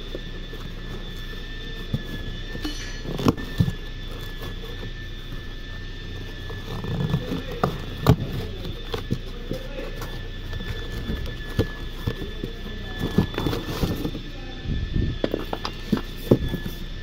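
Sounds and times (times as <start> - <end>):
cardboard tearing: 0.0 - 14.2
high whine: 0.0 - 17.0.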